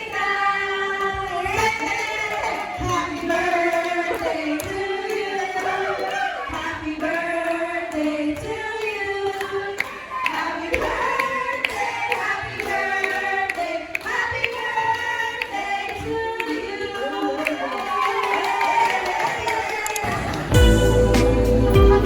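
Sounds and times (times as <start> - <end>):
voices singing together over music: 0.0 - 18.1.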